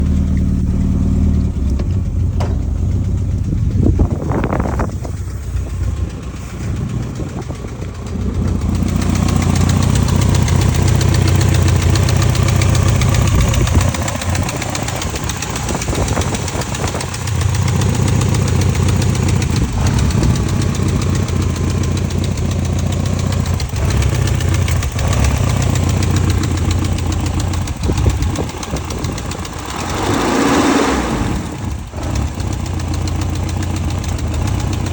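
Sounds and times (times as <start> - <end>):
car engine running with ticking: 0.0 - 34.9.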